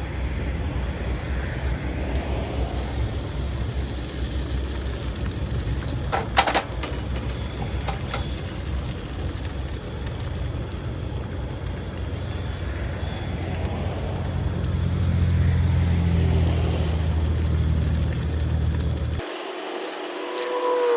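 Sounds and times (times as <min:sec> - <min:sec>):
low steady rumble: 0:00.0 - 0:19.2
eggs cooking in a pan: 0:02.3 - 0:19.2.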